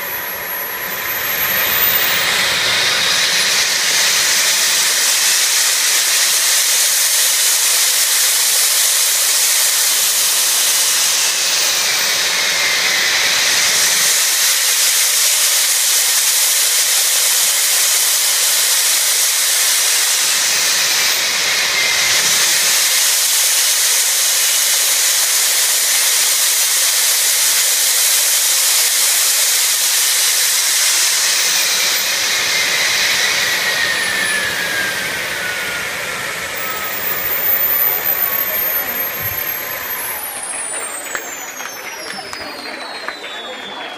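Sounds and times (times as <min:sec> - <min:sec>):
high turbine whine: 0:00.0 - 0:43.9
jet turbine engine hiss: 0:00.0 - 0:43.9.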